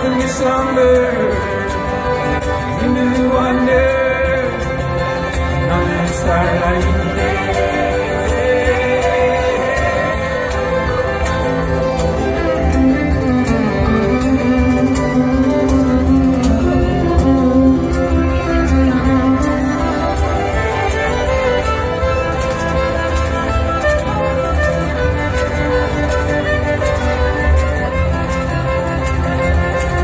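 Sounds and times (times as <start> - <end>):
fiddle melody: 0.0 - 30.0
live folk band playing: 0.0 - 30.0.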